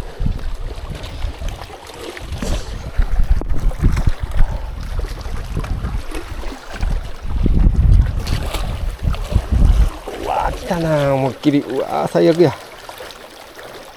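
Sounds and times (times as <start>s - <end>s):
wind buffeting the microphone: 0.0s - 11.5s.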